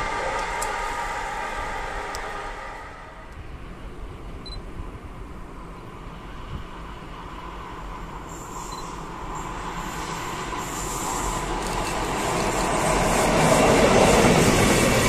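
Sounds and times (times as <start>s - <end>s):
freight train rolling: 0.0s - 15.0s.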